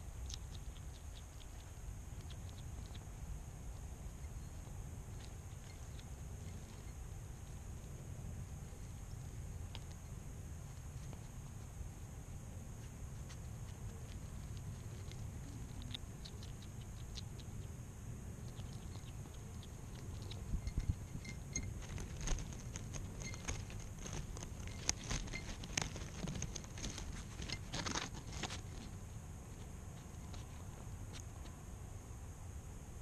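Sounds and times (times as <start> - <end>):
hedgehog rustling and clicking: 0.0 - 17.8, 18.4 - 31.6.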